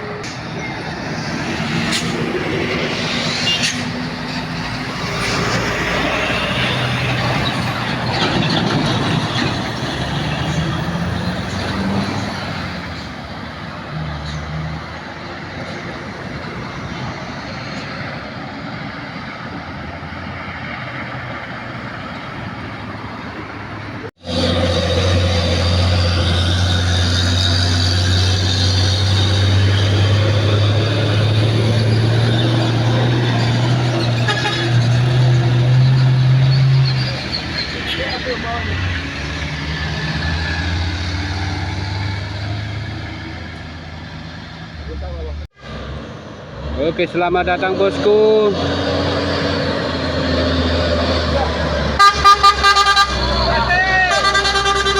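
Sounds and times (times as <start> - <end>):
road and traffic noise: 0.0 - 54.9.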